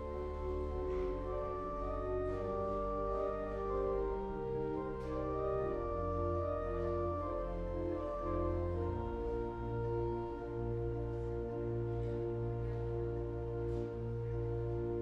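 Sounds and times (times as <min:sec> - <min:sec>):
church organ playing chords: 0:00.0 - 0:15.0.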